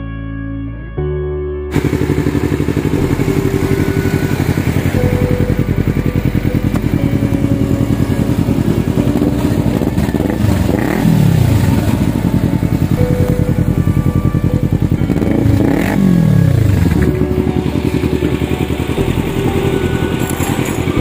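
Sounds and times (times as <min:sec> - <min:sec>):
motorcycle engine idling: 0:01.7 - 0:21.0.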